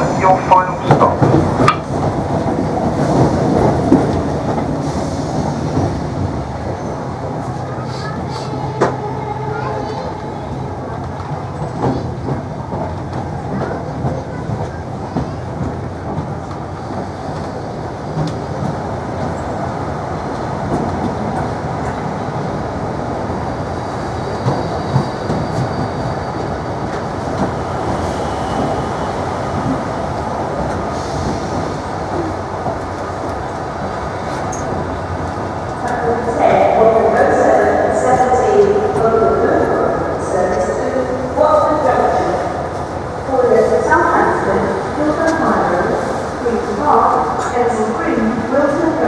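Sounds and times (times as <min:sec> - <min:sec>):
train rumble inside carriage: 0:00.0 - 0:49.0.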